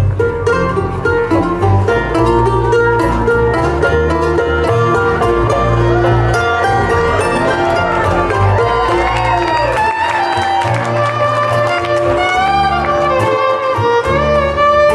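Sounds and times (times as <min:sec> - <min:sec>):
fiddle: 0:00.0 - 0:14.9
low bass line: 0:00.0 - 0:14.9
mandolin picking: 0:00.0 - 0:14.9.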